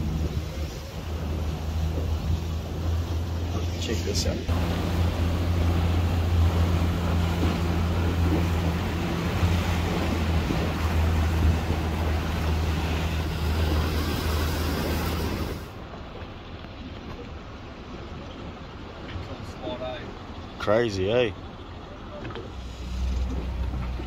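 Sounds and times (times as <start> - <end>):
boat engine humming: 0.0 - 24.0
wind and water rushing: 0.0 - 24.0.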